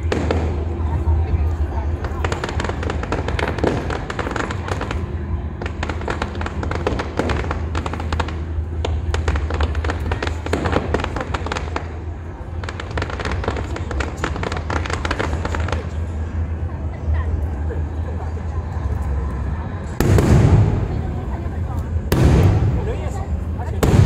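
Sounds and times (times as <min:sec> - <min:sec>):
fireworks crackling and popping: 0:00.0 - 0:16.5, 0:19.8 - 0:24.0
steady low rumble: 0:00.0 - 0:24.0.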